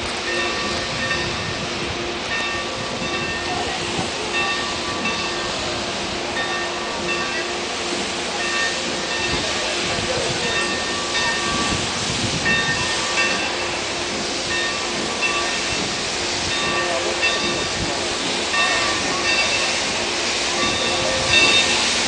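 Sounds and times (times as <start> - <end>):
locomotive bell ringing: 0.0 - 22.0
steam hissing: 0.0 - 22.0.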